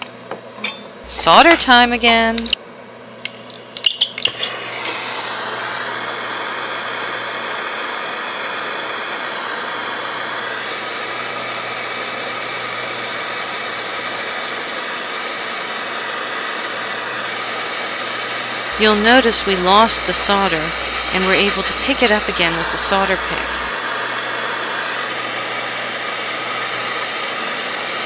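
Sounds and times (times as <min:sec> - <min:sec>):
gas torch flame hissing: 0:01.0 - 0:28.0.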